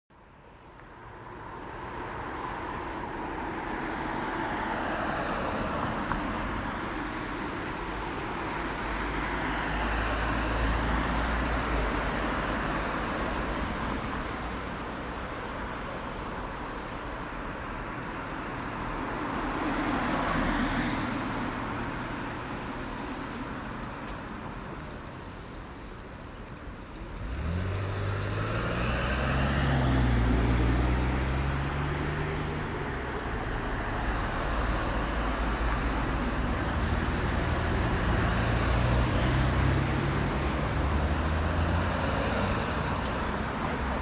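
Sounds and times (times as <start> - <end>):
road traffic: 0.1 - 44.0.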